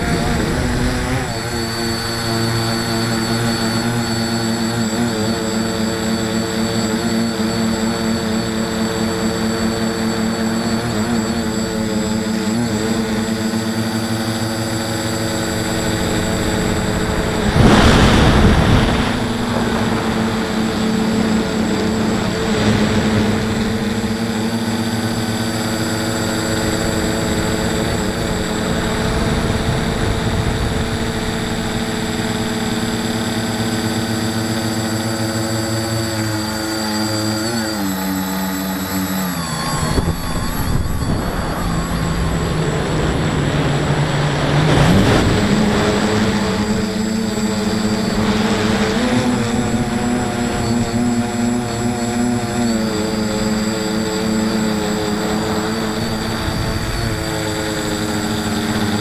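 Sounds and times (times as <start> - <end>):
electric motors and propellers whining: 0.0 - 59.0.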